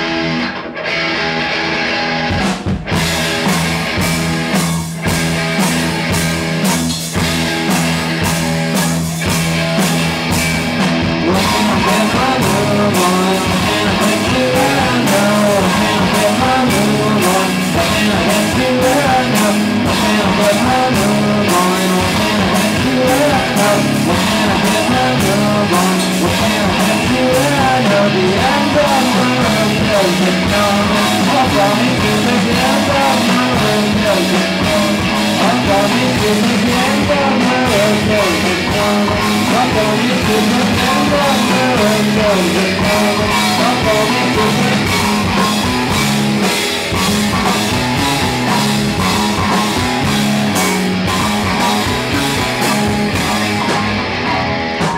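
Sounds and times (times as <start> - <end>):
rock band playing live: 0.0 - 54.9
steady drum beat: 2.3 - 54.9.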